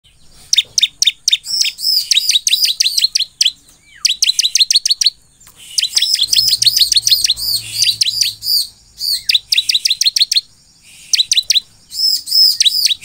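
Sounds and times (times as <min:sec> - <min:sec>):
bird singing high chirps: 0:00.1 - 0:13.0.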